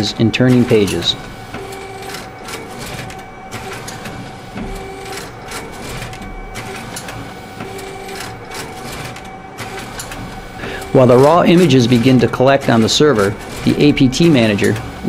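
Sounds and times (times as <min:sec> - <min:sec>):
steady machine hum: 0:00.0 - 0:15.0
mechanical clicks and clatter: 0:00.3 - 0:15.0.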